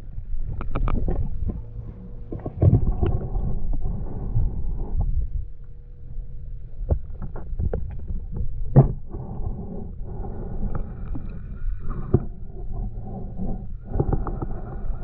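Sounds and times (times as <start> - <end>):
underwater water rumble: 0.0 - 15.0.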